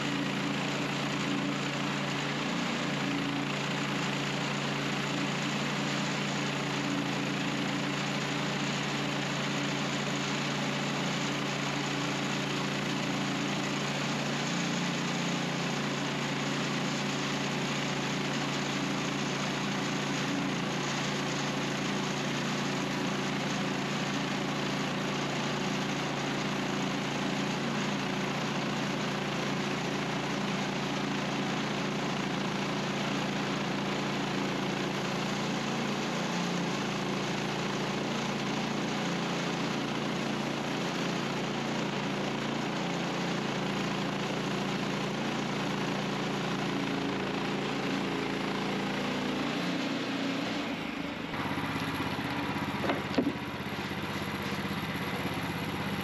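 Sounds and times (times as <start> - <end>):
sawmill petrol engine running: 0.0 - 56.0.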